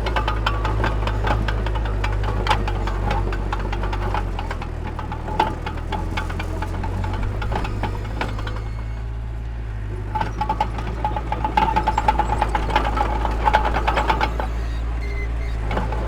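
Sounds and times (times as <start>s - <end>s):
metallic clattering and rattling: 0.0s - 9.1s, 9.8s - 16.0s
diesel engine droning: 0.0s - 16.0s.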